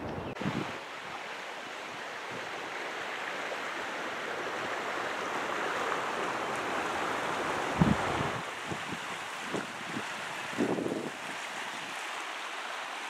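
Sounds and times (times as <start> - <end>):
river water rushing: 0.3 - 13.0.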